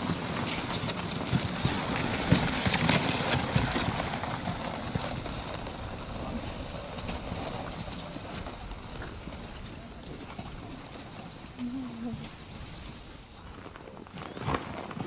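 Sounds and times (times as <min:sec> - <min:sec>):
crunches and scrapes on snow: 0:00.0 - 0:15.0.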